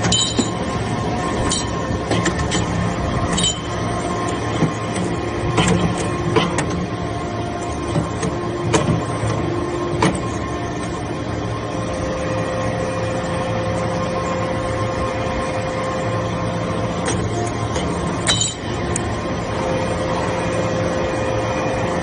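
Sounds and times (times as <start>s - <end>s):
baler machine hum: 0.0s - 22.0s.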